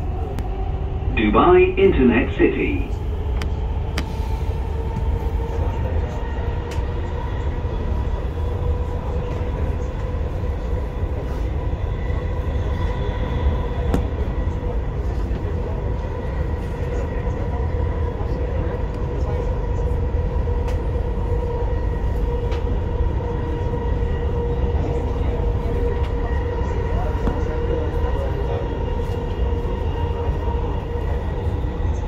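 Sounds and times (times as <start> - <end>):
train low rumble: 0.0 - 32.0
train whine: 0.0 - 32.0.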